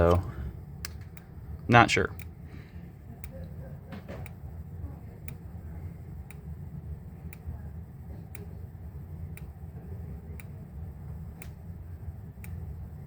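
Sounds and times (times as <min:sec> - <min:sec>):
steady low hum: 0:00.0 - 0:13.0
strobe capacitor clicking: 0:00.0 - 0:13.0.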